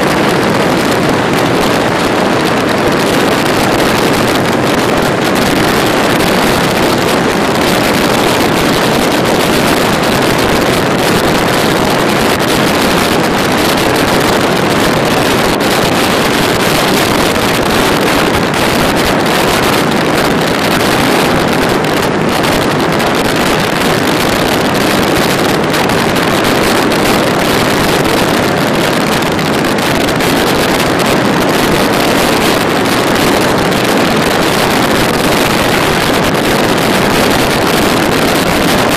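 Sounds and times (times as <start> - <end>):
motorcycle running: 0.0 - 38.9
wind rushing over microphone: 0.0 - 38.9.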